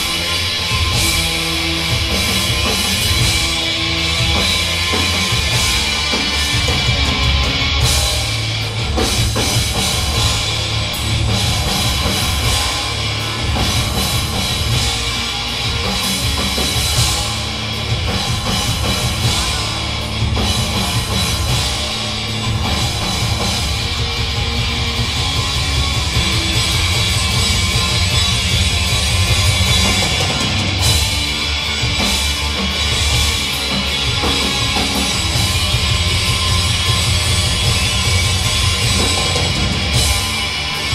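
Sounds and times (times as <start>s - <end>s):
punk band playing live: 0.0s - 40.9s.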